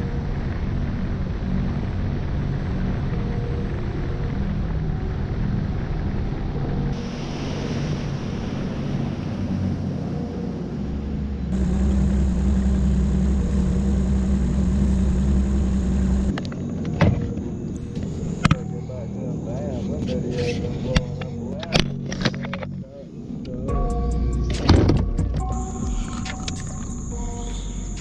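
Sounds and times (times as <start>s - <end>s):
engine droning hum: 0.0s - 28.0s.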